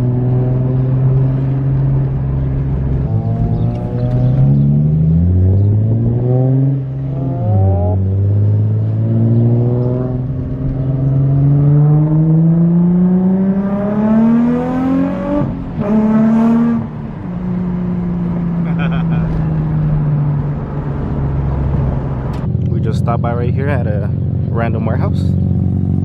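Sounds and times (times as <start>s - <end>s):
sports car engine accelerating: 0.0s - 26.0s.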